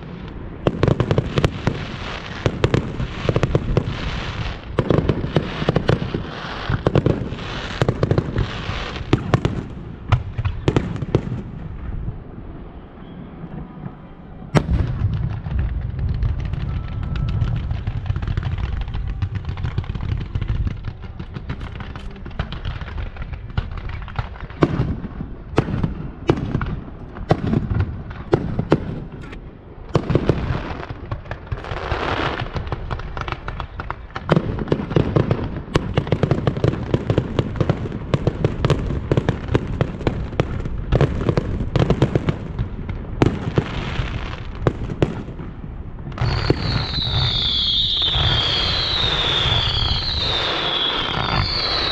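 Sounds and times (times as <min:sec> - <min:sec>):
firecrackers cracking: 0:00.0 - 0:12.2, 0:13.9 - 0:51.9
firework bangs: 0:00.0 - 0:51.9.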